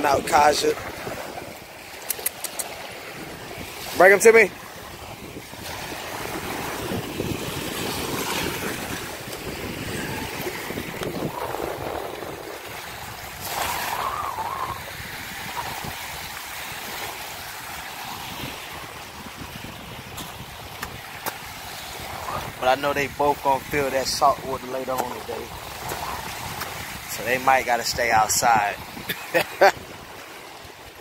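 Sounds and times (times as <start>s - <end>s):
wind buffeting microphone: 0.0s - 2.0s, 2.7s - 31.0s
small waves breaking on shore: 0.0s - 31.0s.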